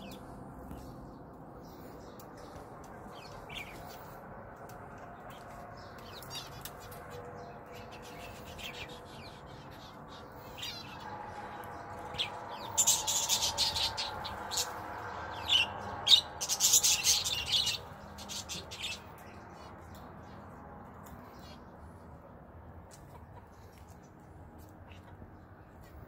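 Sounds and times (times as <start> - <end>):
canaries chirping: 0.0 - 21.8
rapid trilling birdsong: 0.0 - 22.4.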